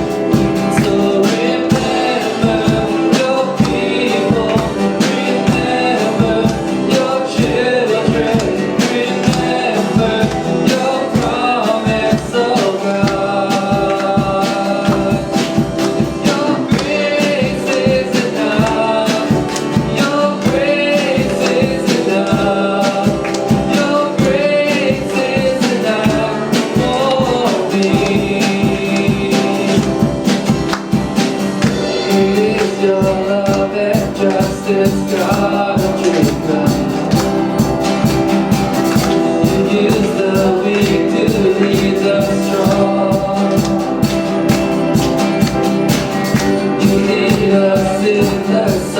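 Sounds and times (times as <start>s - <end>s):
steady drum beat: 0.0s - 48.9s
voices singing: 0.0s - 48.9s
worship band playing: 0.0s - 48.9s.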